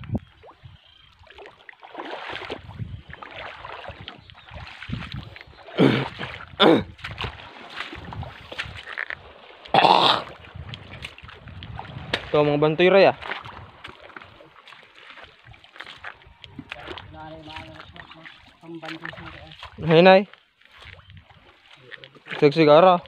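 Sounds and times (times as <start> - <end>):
footsteps splashing through shallow water: 0.2 - 23.0.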